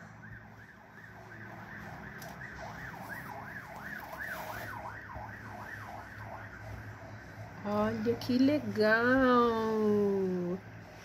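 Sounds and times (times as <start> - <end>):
police siren wailing: 0.0 - 10.8.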